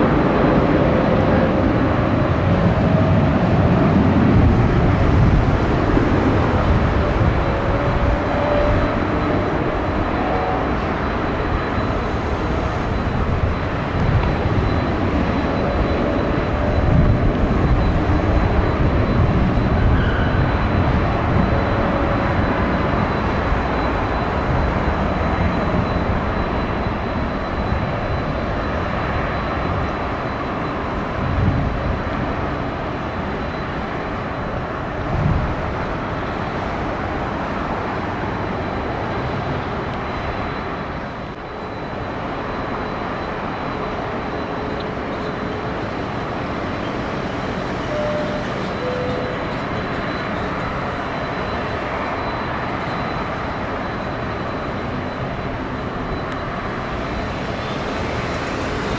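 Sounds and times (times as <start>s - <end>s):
jet airliner engine rumble: 0.0s - 58.9s.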